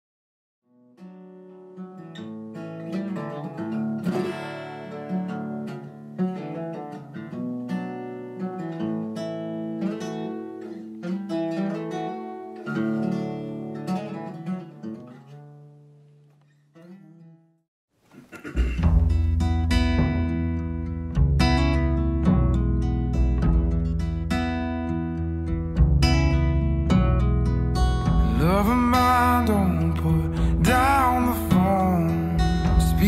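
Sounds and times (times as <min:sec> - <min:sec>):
acoustic guitar chords: 0:00.7 - 0:17.5, 0:18.3 - 0:33.0.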